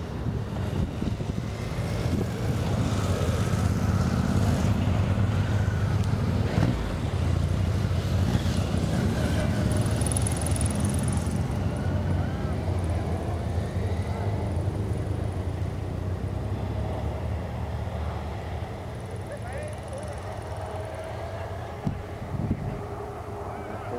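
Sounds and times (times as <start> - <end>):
engine whine: 0.0 - 23.9
turboprop aircraft flying past: 0.0 - 23.9.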